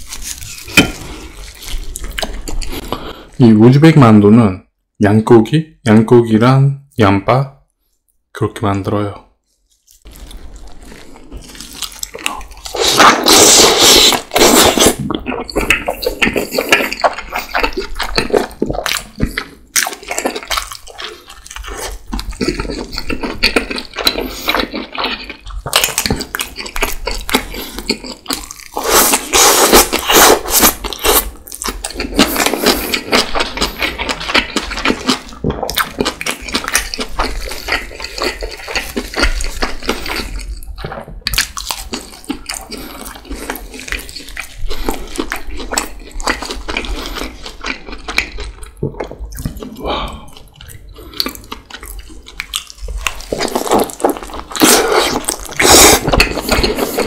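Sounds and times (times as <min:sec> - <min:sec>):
wet chewing and mouth sounds: 0:00.0 - 0:03.4, 0:09.6 - 0:57.0.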